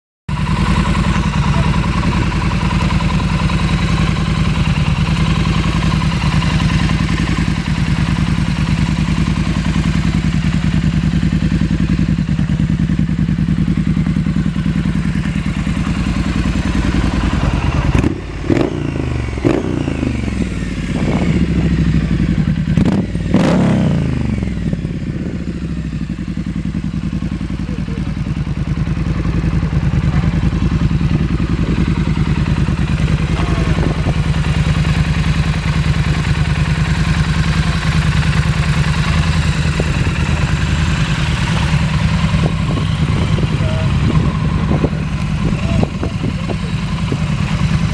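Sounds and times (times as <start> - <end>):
motorcycle engine idling: 0.3 - 47.9
motorcycle throttle blips: 0.3 - 47.9.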